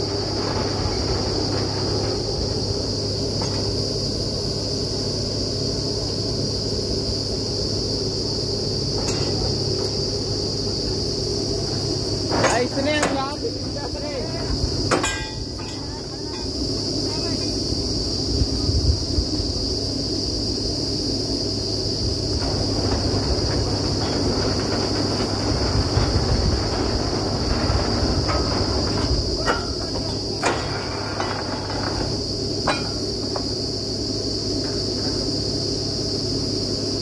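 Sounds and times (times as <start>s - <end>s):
drilling rig engine running: 0.0s - 36.9s
high insect buzz: 0.0s - 37.0s.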